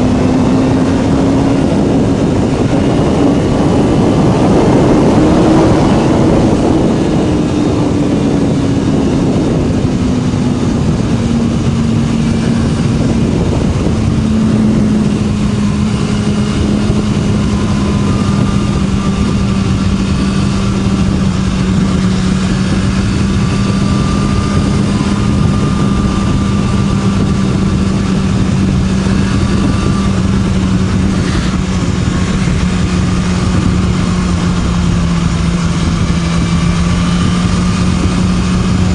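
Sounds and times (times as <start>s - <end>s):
motorcycle engine cruising: 0.0s - 38.9s
wind noise: 0.0s - 38.9s.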